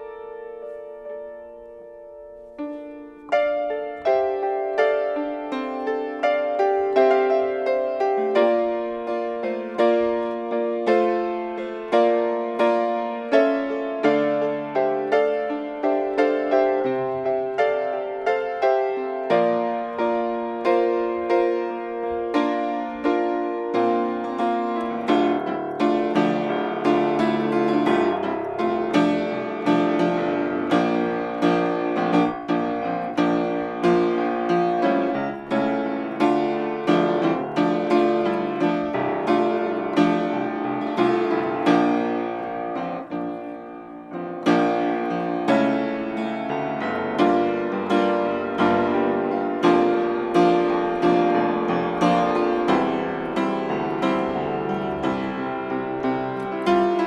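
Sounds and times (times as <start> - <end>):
upright piano playing: 0.0 - 57.0.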